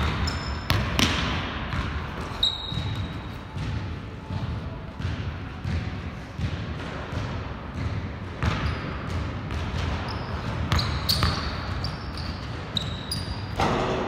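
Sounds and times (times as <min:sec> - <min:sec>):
basketball bouncing on wood floor: 0:00.0 - 0:13.9
sneakers squeaking: 0:00.0 - 0:14.0.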